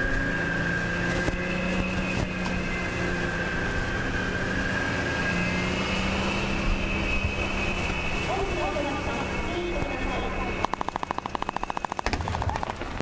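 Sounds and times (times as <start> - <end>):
high-pitched whine: 0.0 - 13.0
vehicle engines droning: 0.0 - 13.0.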